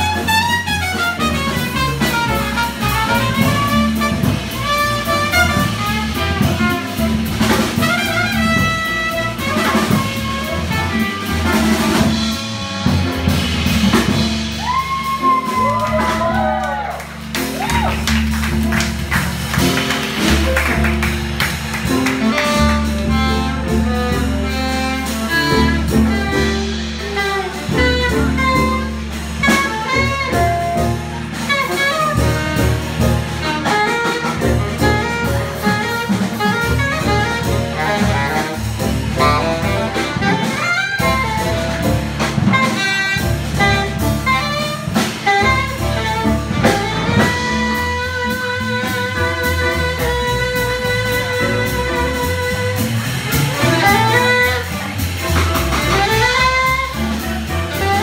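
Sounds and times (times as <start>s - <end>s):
alto saxophone: 0.0s - 58.0s
drum kit: 0.0s - 58.0s
trumpet: 0.0s - 58.0s
upright bass: 0.0s - 58.0s.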